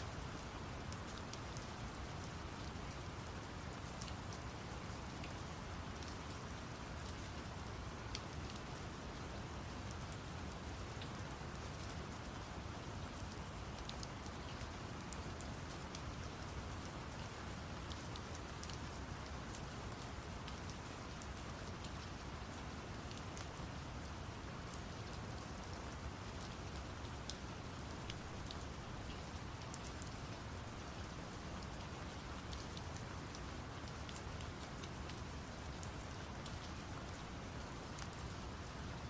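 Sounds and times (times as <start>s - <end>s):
steady rain with drop ticks: 0.0s - 39.0s.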